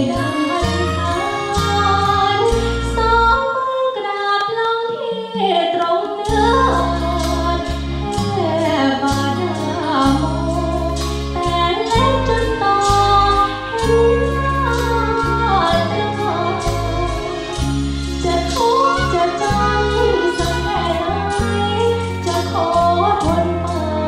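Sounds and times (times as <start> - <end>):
bass: 0.0 - 3.5, 6.2 - 24.0
girl singing into microphone: 0.0 - 24.0.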